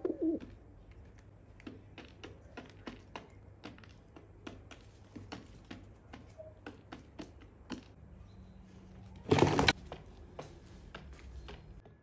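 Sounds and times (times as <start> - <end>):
pigeons pecking on tiled floor: 0.0 - 12.0.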